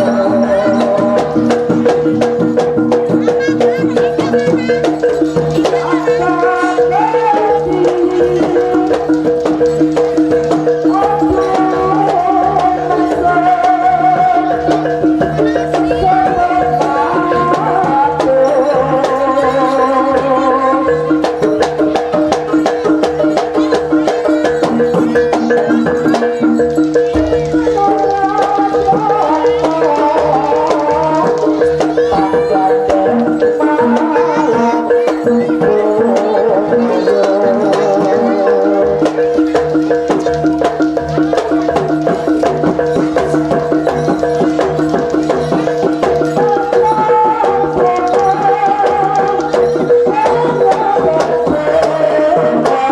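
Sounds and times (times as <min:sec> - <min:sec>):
rapid drum strikes: 0:00.0 - 0:52.9.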